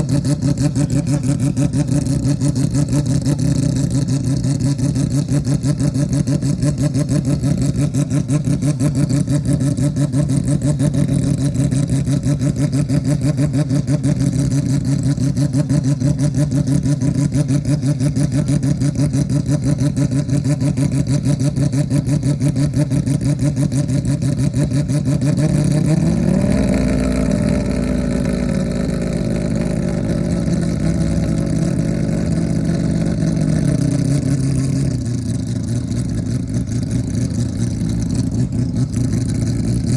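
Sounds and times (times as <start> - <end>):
rotary engine idling and revving: 0.0 - 39.9.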